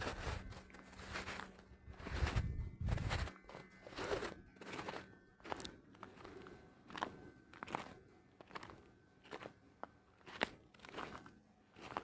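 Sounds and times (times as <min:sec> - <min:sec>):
footsteps crunching in snow: 0:00.0 - 0:09.6, 0:10.2 - 0:12.0.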